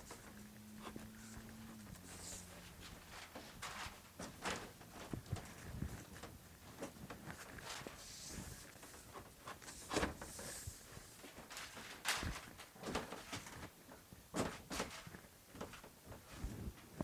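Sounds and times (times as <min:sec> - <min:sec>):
knocks and scraping of wall panel: 0:00.0 - 0:13.7, 0:14.3 - 0:16.7.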